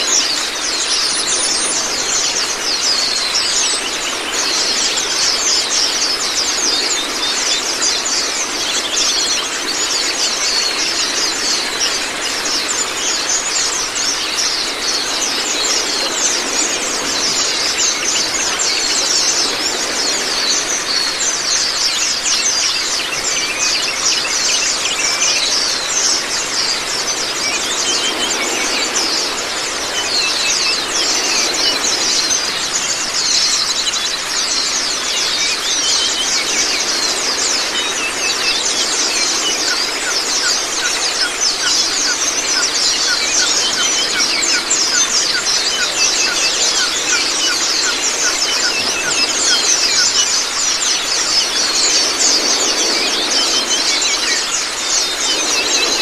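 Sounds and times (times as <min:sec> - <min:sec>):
birds chattering song: 0:00.0 - 0:56.0
running water: 0:00.0 - 0:56.0.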